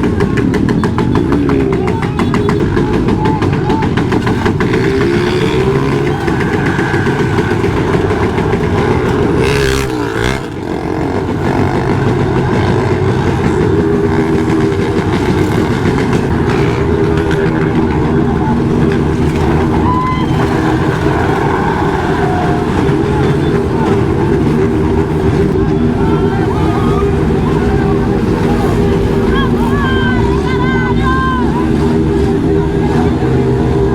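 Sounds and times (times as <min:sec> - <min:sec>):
motorcycle engine revving: 0:00.0 - 0:33.9
rushing noise: 0:02.9 - 0:33.9.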